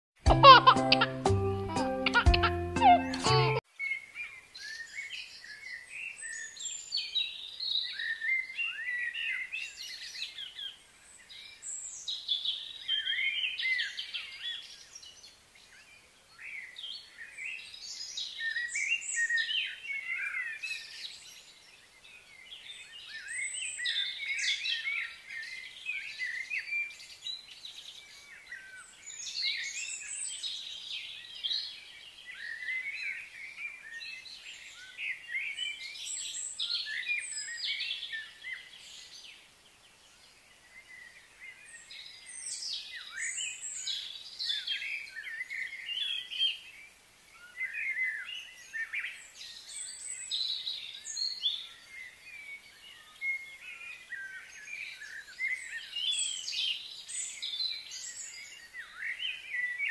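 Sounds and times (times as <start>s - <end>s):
wild birds chirping and singing: 2.8s - 59.9s.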